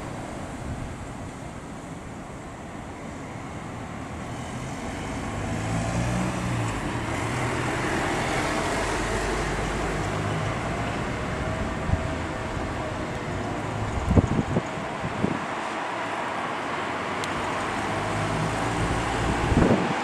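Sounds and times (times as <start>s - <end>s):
passing vehicle engine hum: 0.0s - 20.0s.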